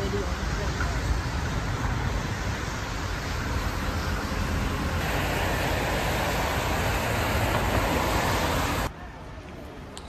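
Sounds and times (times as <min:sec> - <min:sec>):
road traffic: 0:00.0 - 0:10.0
rushing hiss: 0:00.1 - 0:08.9.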